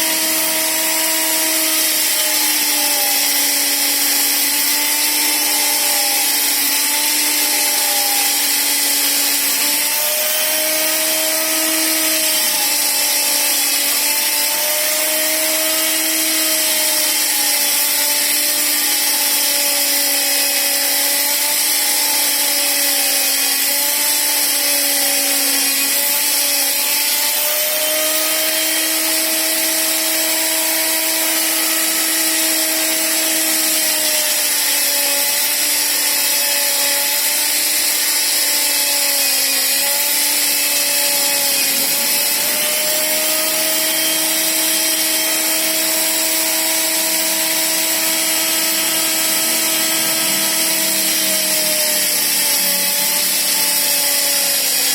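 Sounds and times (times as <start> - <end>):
electric power tool motor whining: 0.0 - 54.9.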